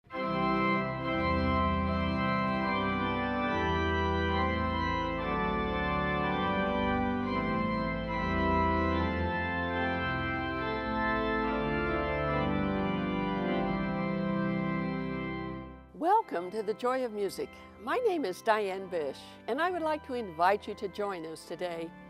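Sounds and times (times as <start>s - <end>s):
pipe organ chords: 0.1s - 22.0s.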